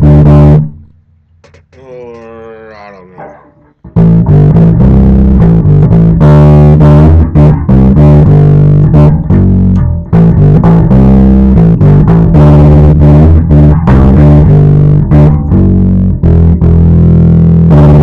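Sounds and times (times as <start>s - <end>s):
electric bass riff: 0.0s - 18.0s.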